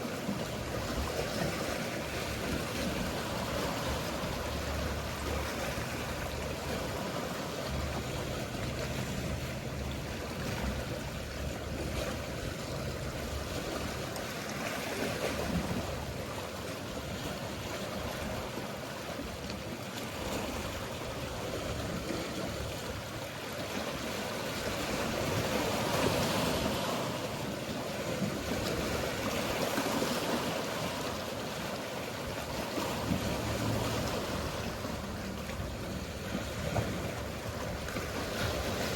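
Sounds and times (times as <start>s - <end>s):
boat engines humming: 0.0s - 38.9s
sea waves washing: 0.0s - 38.9s.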